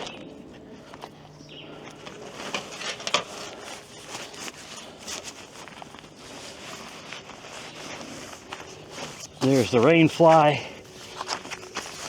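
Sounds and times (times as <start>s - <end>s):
tent fabric rustling and scraping: 2.0s - 12.0s.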